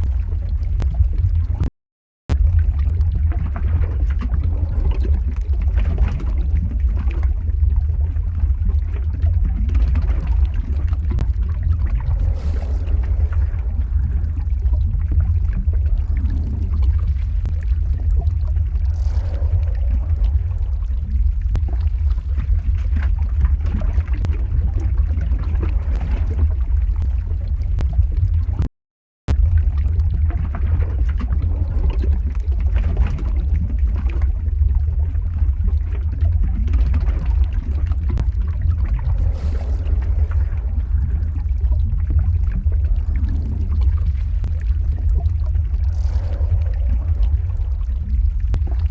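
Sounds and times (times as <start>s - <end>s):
lava crackling and bubbling: 0.0s - 48.9s
lava low rumble: 0.0s - 48.9s.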